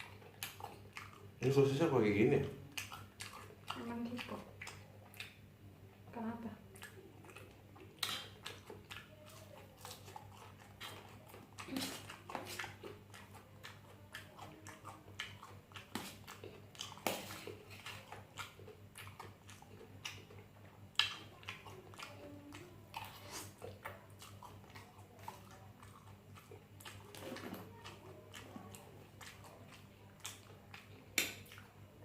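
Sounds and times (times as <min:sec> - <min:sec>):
chewing with wet mouth clicks: 0:00.0 - 0:05.5, 0:06.7 - 0:32.0.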